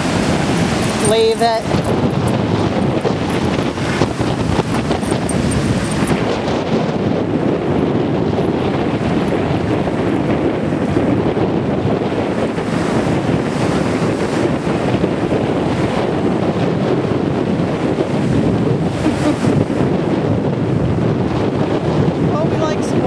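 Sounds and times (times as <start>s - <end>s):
ocean surf: 0.0s - 23.0s
wind on microphone: 0.0s - 23.0s.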